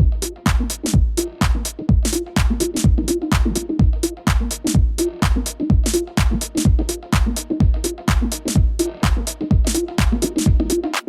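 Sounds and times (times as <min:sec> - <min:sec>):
electronic house music: 0:00.0 - 0:11.0.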